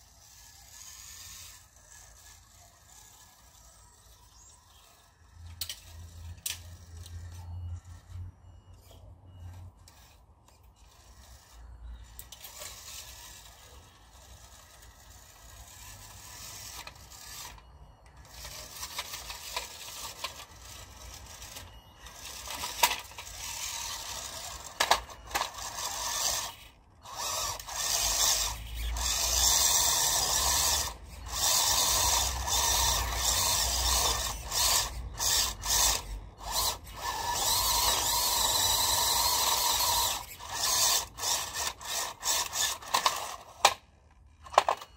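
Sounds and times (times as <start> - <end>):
toy truck motor whirring: 0.0 - 44.9.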